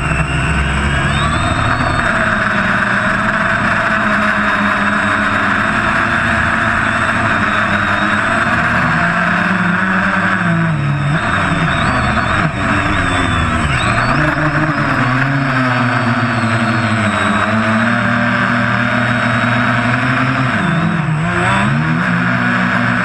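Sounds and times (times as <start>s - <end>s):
quadcopter motors buzzing whine: 0.0s - 23.0s.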